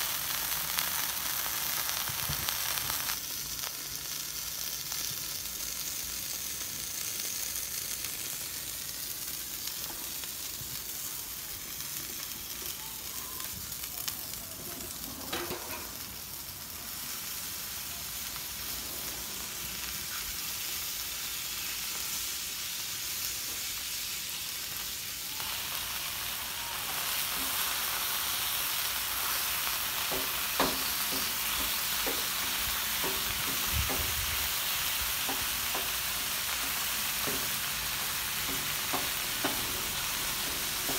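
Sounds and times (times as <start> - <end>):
meat sizzling on a griddle: 0.0 - 40.9.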